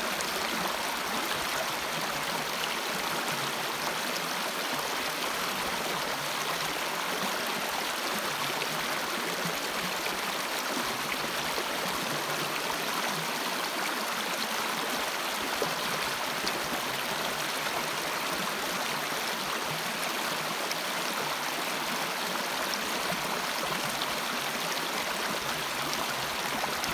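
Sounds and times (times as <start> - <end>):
stream rushing over stones: 0.0 - 26.9.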